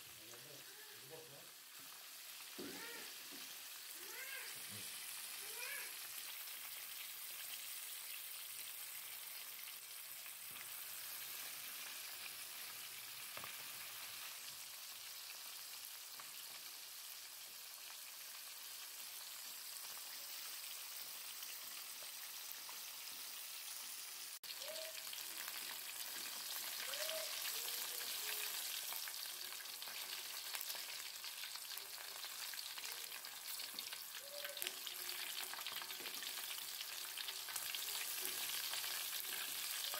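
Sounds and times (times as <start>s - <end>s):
oil sizzling while deep-frying: 0.0s - 39.9s.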